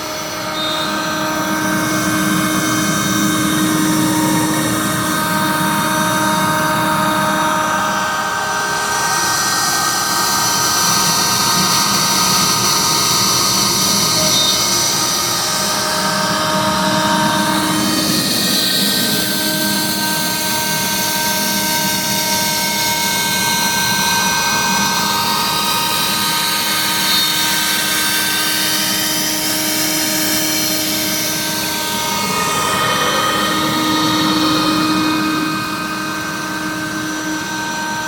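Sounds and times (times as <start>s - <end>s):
router spindle high whine: 0.0s - 38.0s.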